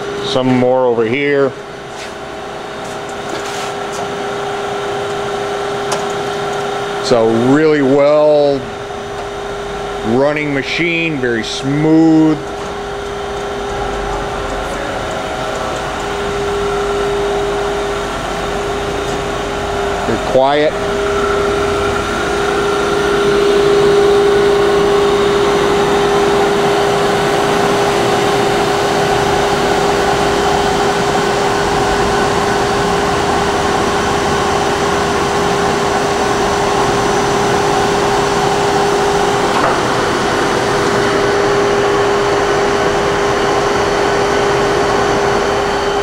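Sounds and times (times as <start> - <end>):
grinder machine whirring hum: 0.0 - 46.0.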